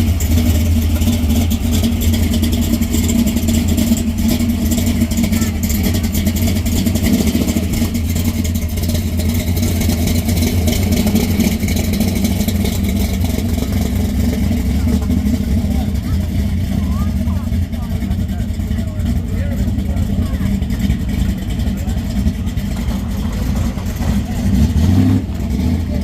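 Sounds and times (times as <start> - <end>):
car engine deep exhaust rumble: 0.0 - 26.0.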